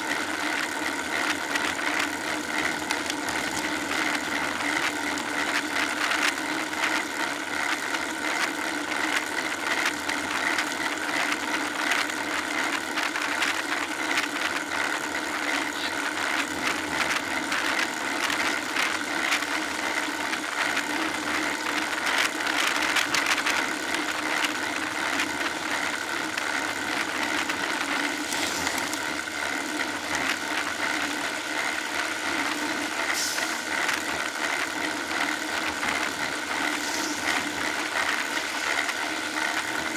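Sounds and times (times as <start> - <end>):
bike riding noise: 0.0 - 39.9.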